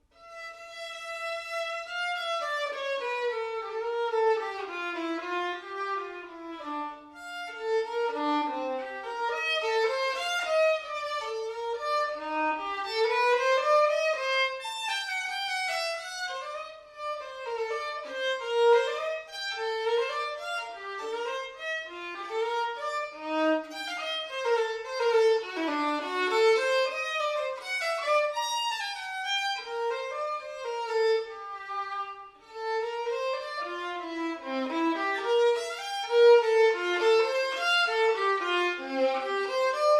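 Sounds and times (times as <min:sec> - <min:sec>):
solo violin melody: 0:00.0 - 0:39.9.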